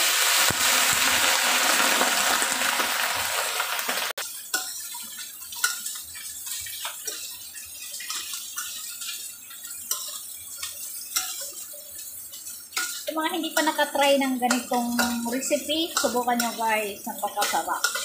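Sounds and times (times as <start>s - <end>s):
water hissing in hot wok: 0.0s - 18.0s
metal spatula scraping wok: 0.4s - 18.0s.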